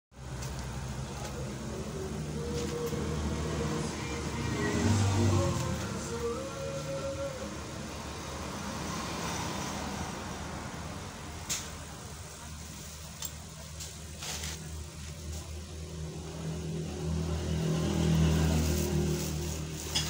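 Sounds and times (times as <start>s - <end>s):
low engine hum: 0.2s - 20.0s.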